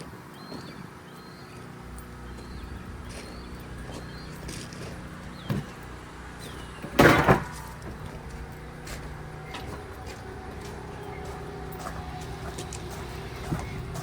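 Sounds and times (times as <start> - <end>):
steady low hum: 0.4 - 14.0.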